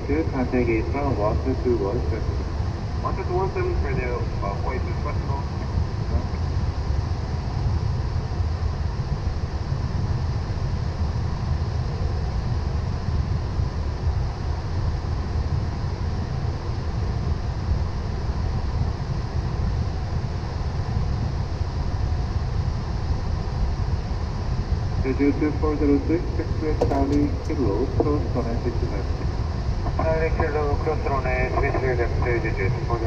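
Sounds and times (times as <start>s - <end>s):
deep aircraft rumble: 0.0s - 33.0s.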